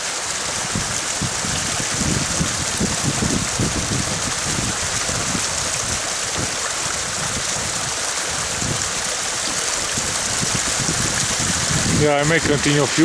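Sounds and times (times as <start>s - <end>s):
waterfall splashing and rushing: 0.0s - 13.0s.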